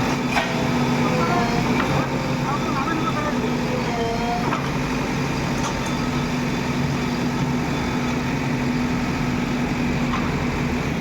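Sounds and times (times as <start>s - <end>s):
heavy diesel engine idling: 0.0s - 11.0s.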